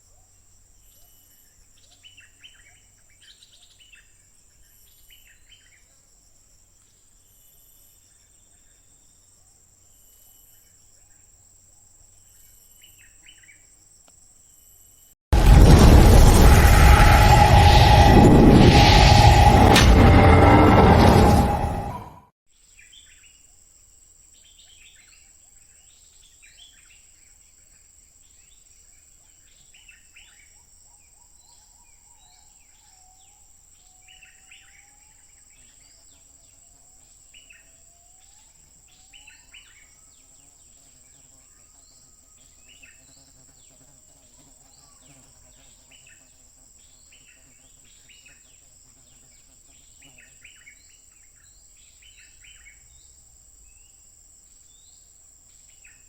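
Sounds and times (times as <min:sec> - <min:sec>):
insect drone: 0:00.0 - 0:56.0.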